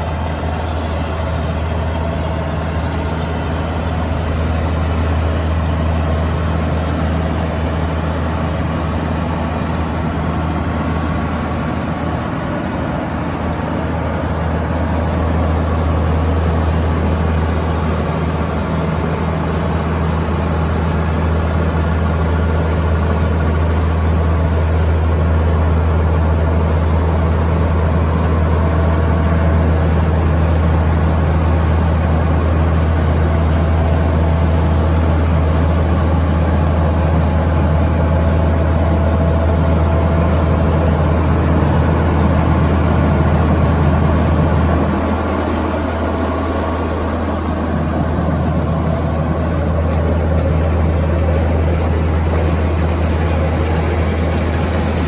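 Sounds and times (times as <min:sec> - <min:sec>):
combine harvester diesel engine: 0:00.0 - 0:55.0.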